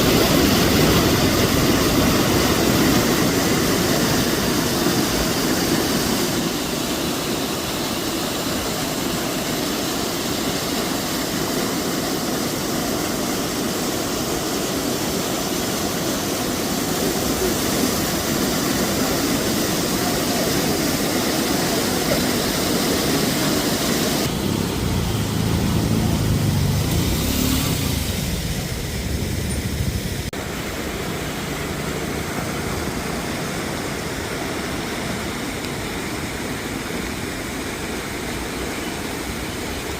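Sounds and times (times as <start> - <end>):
river rushing water roar: 0.0 - 39.9.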